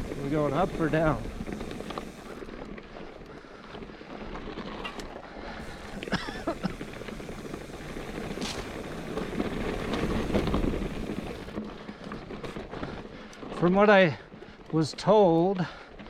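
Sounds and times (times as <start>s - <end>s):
bike tyres rolling on rocky dirt: 0.0s - 16.0s.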